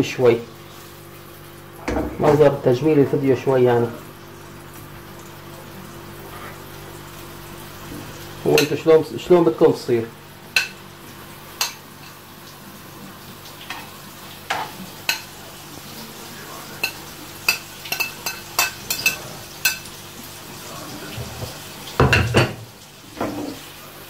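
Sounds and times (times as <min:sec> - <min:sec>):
meatballs sizzling in pan: 0:04.0 - 0:24.0.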